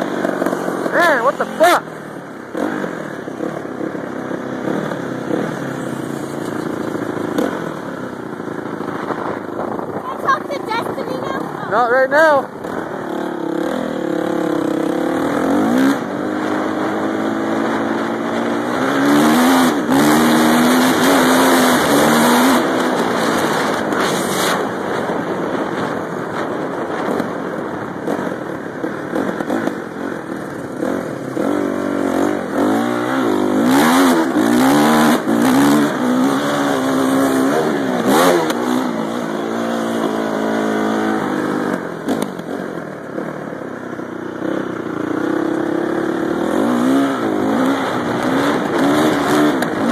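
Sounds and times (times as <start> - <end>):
motocross bike engine revving: 0.0 - 26.0, 28.0 - 49.9.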